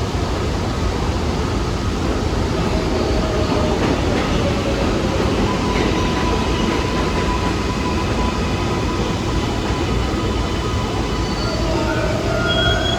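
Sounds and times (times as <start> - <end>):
subway train rumble: 0.0 - 12.9.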